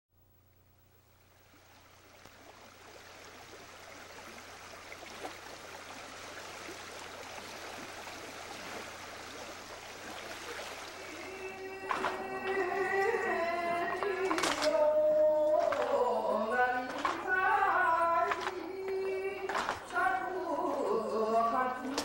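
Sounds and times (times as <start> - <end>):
low steady hum: 0.1 - 22.0
stream water flowing: 0.6 - 22.0.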